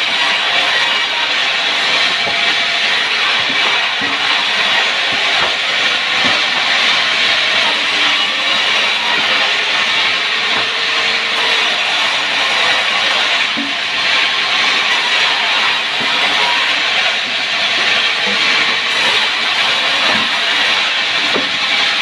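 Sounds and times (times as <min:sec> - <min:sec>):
power saw cutting wood: 0:00.0 - 0:22.0.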